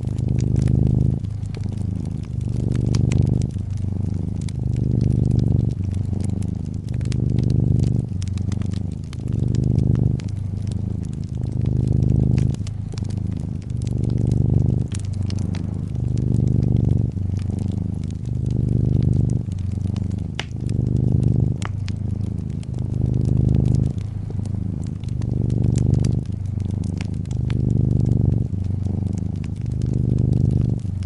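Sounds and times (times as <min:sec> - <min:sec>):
cat purring: 0:00.0 - 0:31.0
wood fire crackling: 0:00.0 - 0:31.0.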